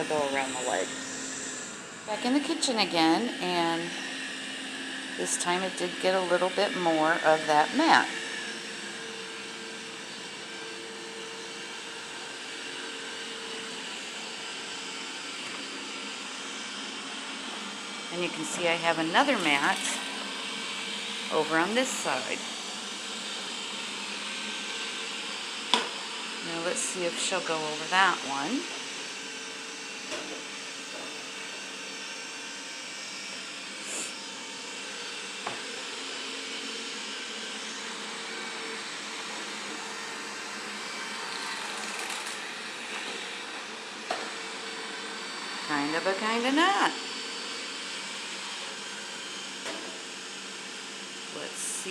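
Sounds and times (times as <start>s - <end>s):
robot vacuum cleaner whirring: 0.0s - 51.9s.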